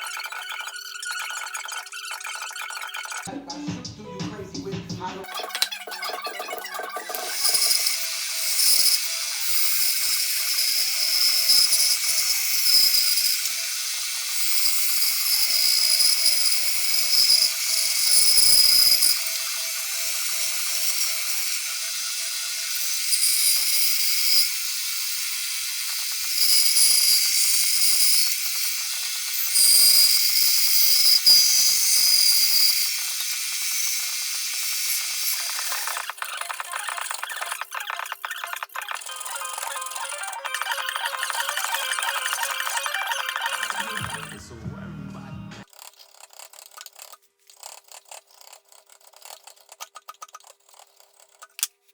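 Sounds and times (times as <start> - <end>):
grinder grinding steel: 0.0 - 3.3, 5.2 - 44.6.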